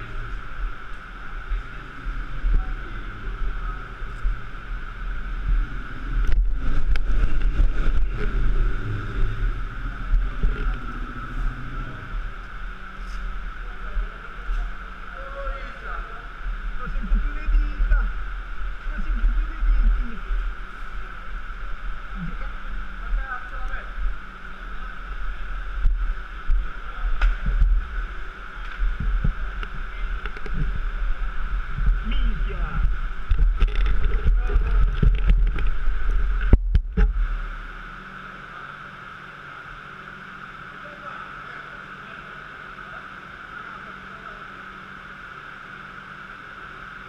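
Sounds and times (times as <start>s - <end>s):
small bike engine rumbling: 0.0s - 39.3s
steady high whine: 0.0s - 47.0s.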